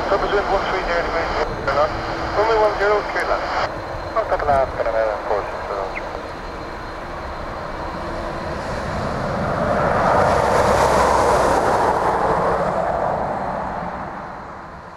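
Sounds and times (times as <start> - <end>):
jet engine rushing noise: 0.0 - 14.9.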